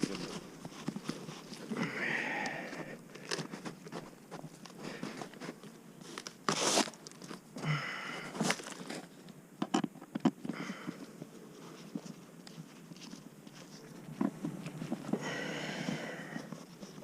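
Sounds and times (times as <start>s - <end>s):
hands and tools rustling in beehive: 0.0s - 17.0s.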